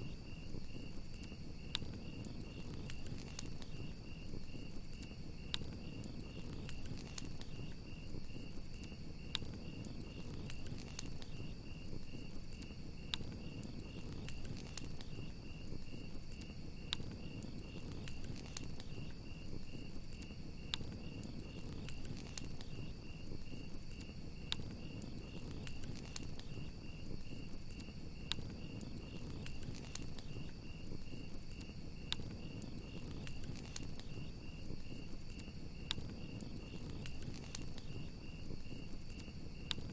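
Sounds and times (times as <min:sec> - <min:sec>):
crackling campfire: 0:00.0 - 0:39.9
crickets chirping: 0:00.0 - 0:39.9.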